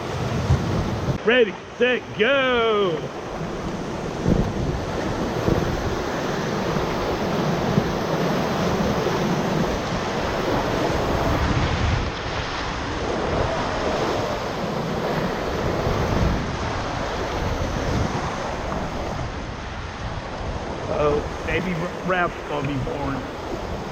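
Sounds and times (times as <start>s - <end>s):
wind buffeting microphone: 0.0s - 23.9s
whitewater rushing: 1.0s - 23.9s.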